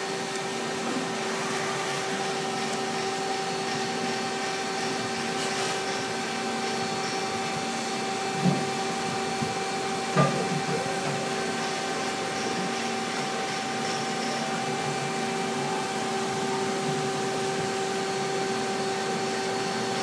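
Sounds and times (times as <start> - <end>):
gear cutting machine whining: 0.0 - 20.0.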